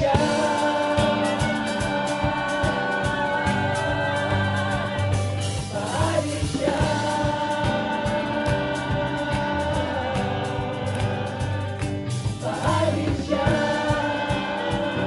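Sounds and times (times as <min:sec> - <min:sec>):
mixed voices singing in chorus: 0:00.0 - 0:15.0
steady beat: 0:00.0 - 0:15.0.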